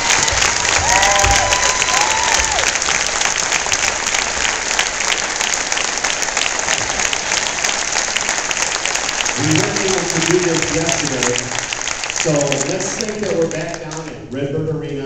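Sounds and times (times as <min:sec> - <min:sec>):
crowd applauding: 0:00.0 - 0:14.2.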